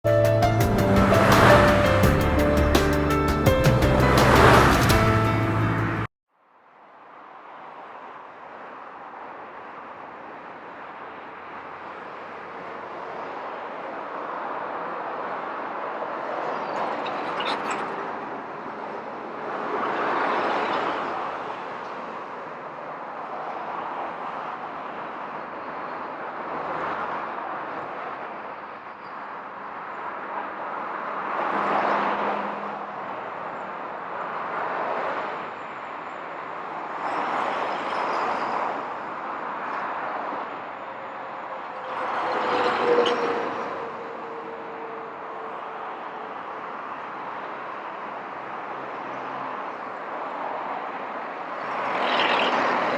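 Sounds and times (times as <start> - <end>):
vehicles passing: 0.0 - 6.1, 7.4 - 52.9
traffic noise: 0.0 - 52.9.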